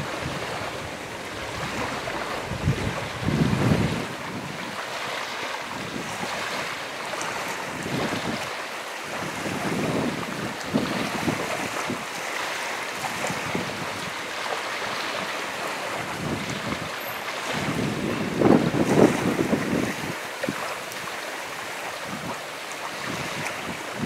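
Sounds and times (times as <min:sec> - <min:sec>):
choppy water: 0:00.0 - 0:24.0
wind buffeting microphone: 0:00.0 - 0:24.0.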